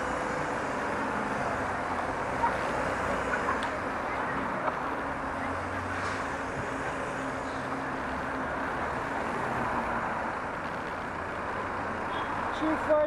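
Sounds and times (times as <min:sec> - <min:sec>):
bus engine idling: 0:00.0 - 0:13.0
street traffic hum: 0:00.0 - 0:13.0.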